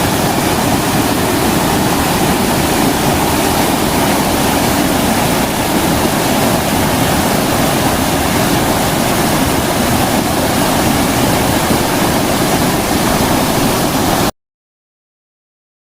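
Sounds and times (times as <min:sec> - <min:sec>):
creek water rushing: 0:00.0 - 0:14.3.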